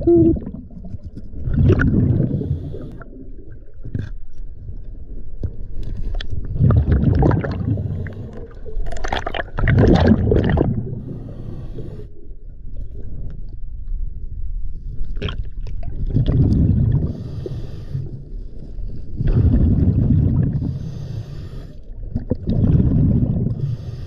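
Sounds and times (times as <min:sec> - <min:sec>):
regulator bubbles gurgling underwater: 0:00.0 - 0:14.3, 0:15.0 - 0:21.0, 0:21.9 - 0:24.0
low underwater rumble: 0:00.0 - 0:21.0, 0:22.0 - 0:23.8.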